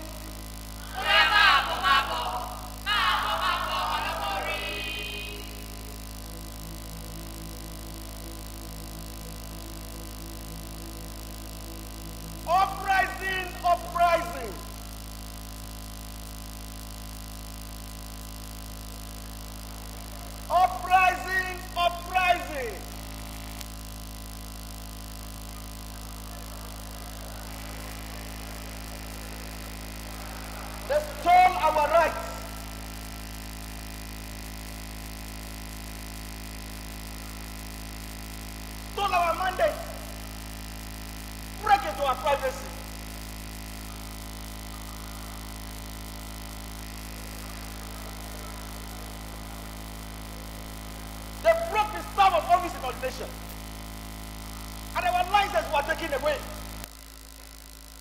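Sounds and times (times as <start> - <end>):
low electrical hum and buzz: 0.0 - 58.0.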